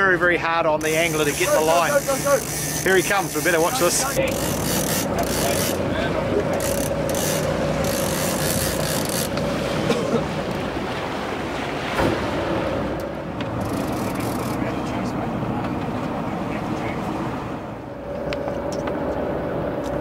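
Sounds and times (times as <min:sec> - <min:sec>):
sea wash: 0:00.0 - 0:19.8
boat engine humming: 0:00.0 - 0:20.0.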